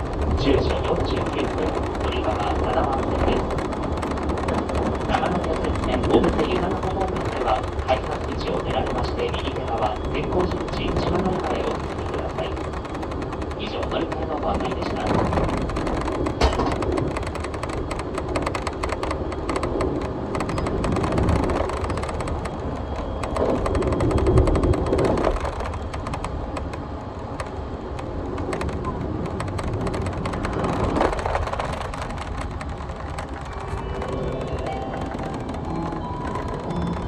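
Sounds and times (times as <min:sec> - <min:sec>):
train rumbling and rattling: 0:00.0 - 0:37.0.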